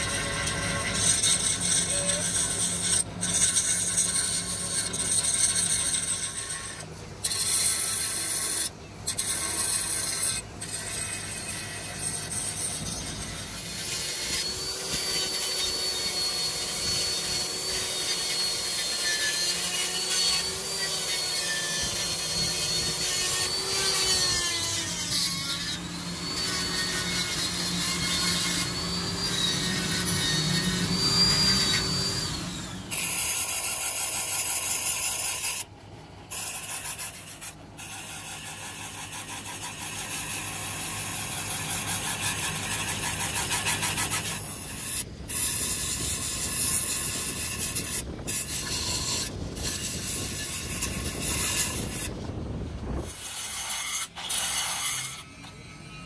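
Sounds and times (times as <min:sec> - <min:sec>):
die grinder grinding metal: 0:00.0 - 0:56.0.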